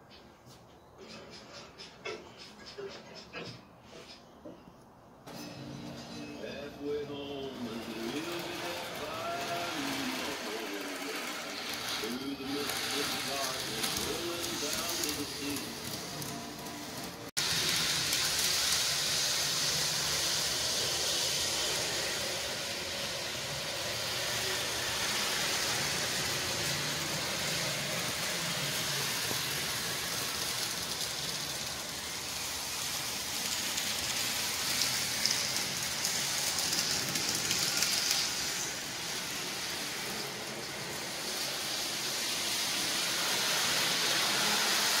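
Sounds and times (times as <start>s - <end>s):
steady hiss: 5.8s - 45.0s.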